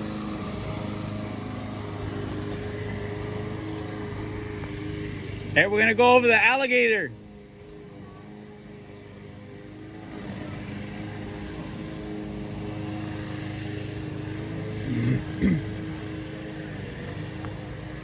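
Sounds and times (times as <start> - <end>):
steady motor drone: 0.0 - 18.0.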